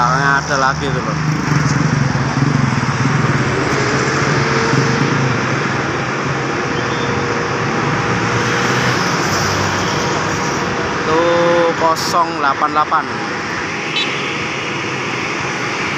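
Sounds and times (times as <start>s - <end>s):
bus engine noise: 0.0s - 15.9s.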